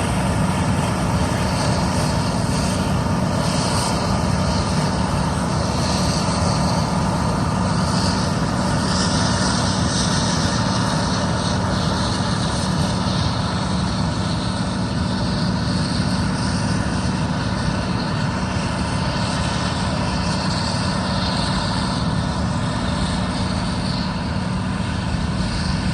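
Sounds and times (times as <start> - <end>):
combine harvester droning: 0.0 - 25.9.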